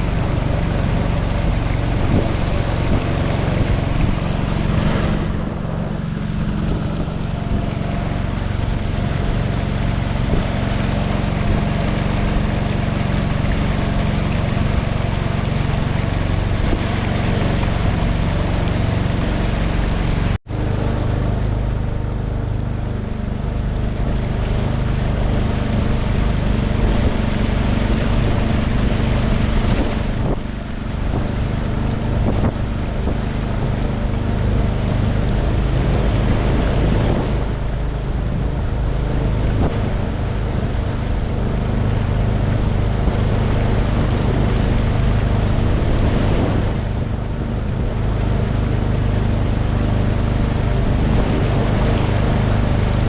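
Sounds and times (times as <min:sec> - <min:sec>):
outboard motor running: 0:00.0 - 0:53.0
wind buffeting microphone: 0:00.0 - 0:53.0.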